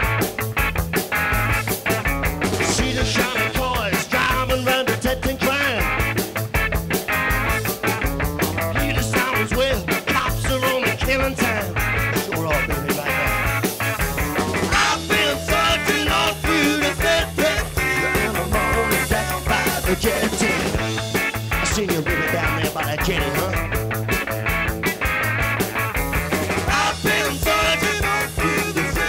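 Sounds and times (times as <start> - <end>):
bass guitar: 0.0 - 29.0
drums with a steady beat: 0.0 - 29.0
electric guitar: 0.0 - 29.0.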